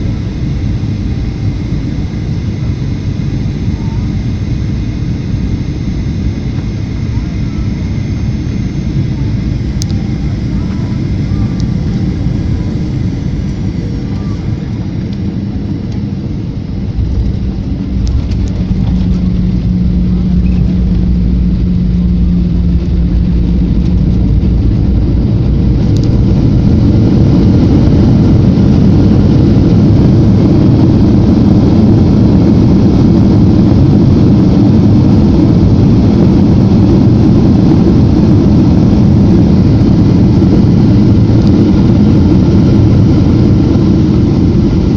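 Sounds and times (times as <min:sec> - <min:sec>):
airliner engines rumbling in cabin: 0:00.0 - 0:44.9.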